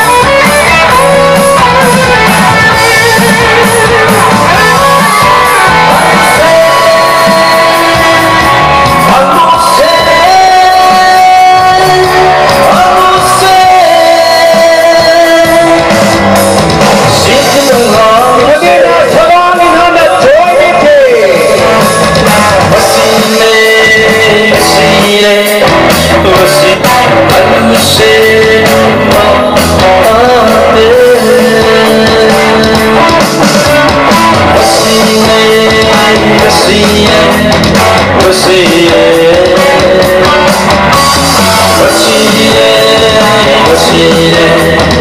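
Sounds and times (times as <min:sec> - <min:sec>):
song with vocals guitar and drums: 0:00.0 - 0:45.0.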